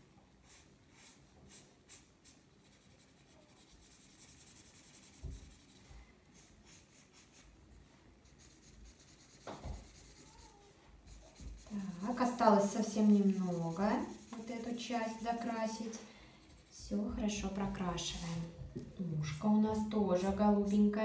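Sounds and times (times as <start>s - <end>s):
marker scratching on paper: 0.4s - 7.6s, 8.2s - 18.5s.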